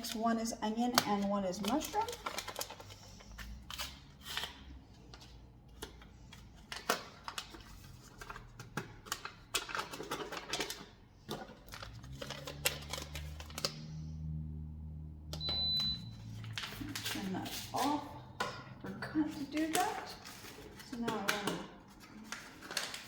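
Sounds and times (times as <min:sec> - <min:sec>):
kitchen items being handled: 0:00.0 - 0:13.6, 0:15.5 - 0:23.0.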